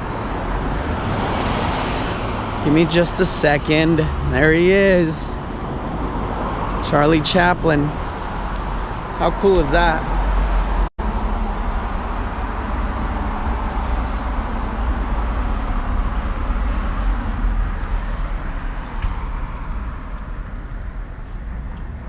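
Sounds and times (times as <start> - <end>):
city street traffic noise: 0.0 - 22.0.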